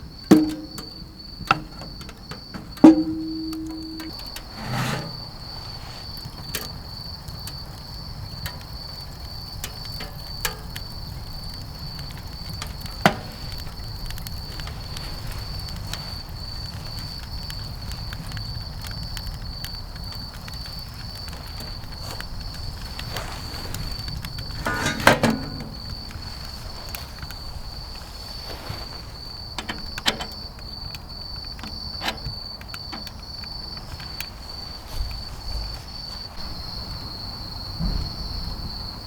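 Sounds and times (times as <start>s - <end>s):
wood fire crackling: 0.0s - 37.4s.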